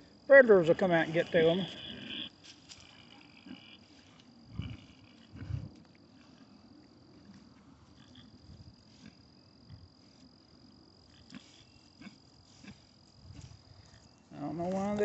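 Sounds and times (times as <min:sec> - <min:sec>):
high-pitched insect trill: 0:00.0 - 0:07.0, 0:07.8 - 0:15.0.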